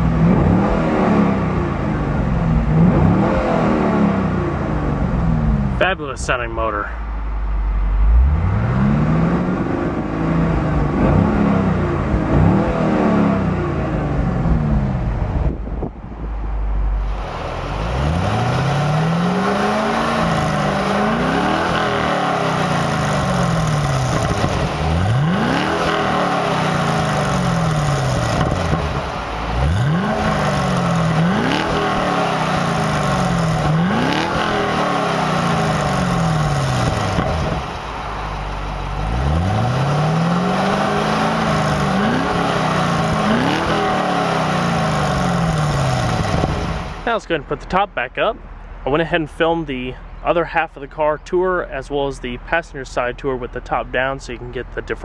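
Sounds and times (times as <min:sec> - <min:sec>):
car engine revving: 0:00.0 - 0:48.1.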